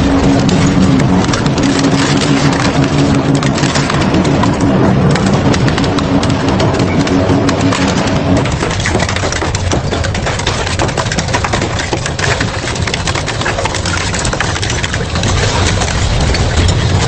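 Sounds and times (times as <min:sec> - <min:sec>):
industrial shredder grinding: 0:00.0 - 0:17.0.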